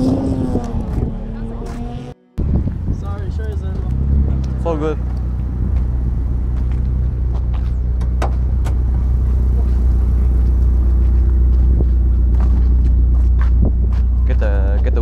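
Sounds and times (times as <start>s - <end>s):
car engine idling: 0.7s - 15.0s.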